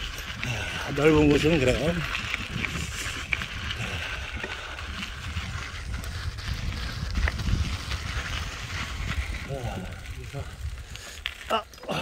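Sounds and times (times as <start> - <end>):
wind on microphone: 0.0 - 11.4
bicycle tyres rolling over pavers: 0.0 - 12.0.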